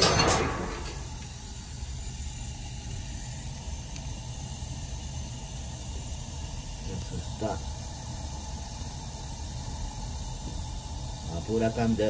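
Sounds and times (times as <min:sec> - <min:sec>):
gas burners rumbling: 0:00.0 - 0:12.0.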